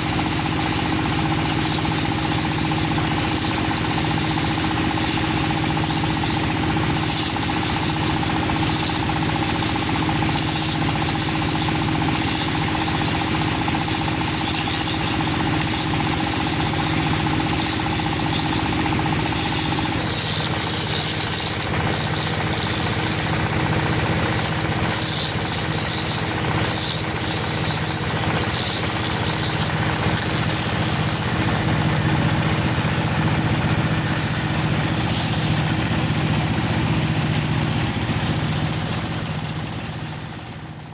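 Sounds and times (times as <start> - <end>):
machine humming: 0.0 - 40.9.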